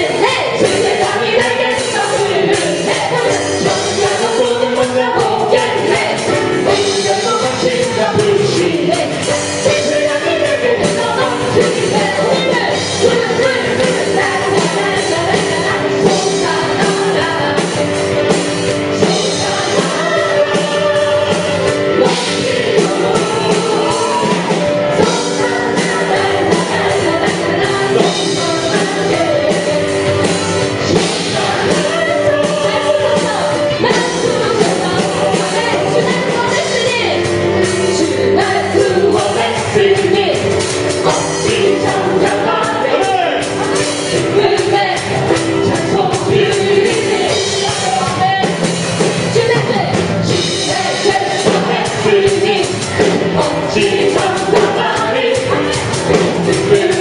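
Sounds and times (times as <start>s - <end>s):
drums: 0.0s - 57.0s
voices singing: 0.0s - 57.0s
worship band playing: 0.0s - 57.0s.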